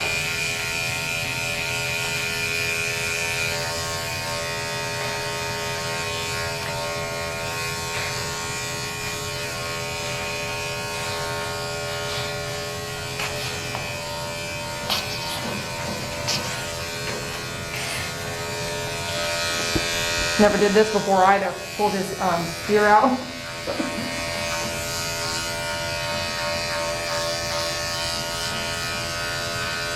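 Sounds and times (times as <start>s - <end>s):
electric clippers buzzing: 0.0s - 29.9s.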